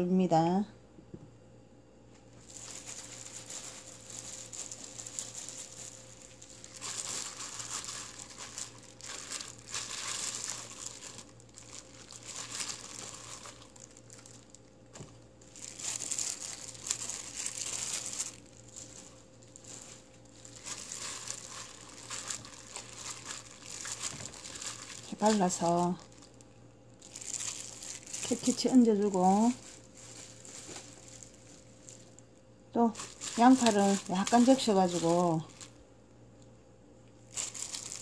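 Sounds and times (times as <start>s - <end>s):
plastic glove crinkling: 2.2s - 38.0s.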